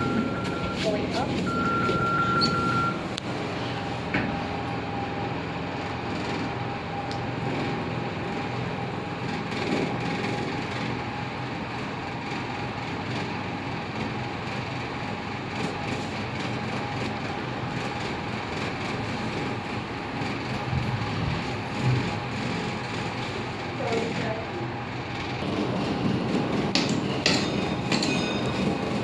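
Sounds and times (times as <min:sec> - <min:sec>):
lift running hum: 0:00.0 - 0:29.0.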